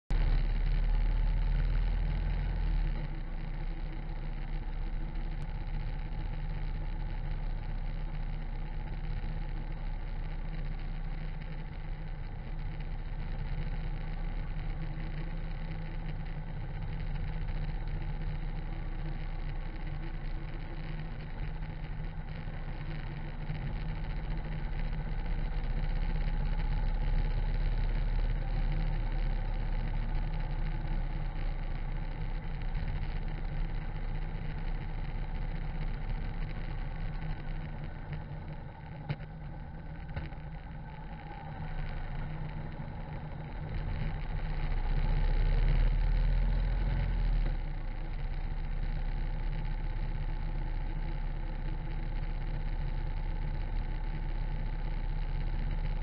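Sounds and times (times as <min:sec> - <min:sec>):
motorcycle engine at speed: 0:00.1 - 0:56.0
tyres on wet asphalt: 0:00.1 - 0:56.0.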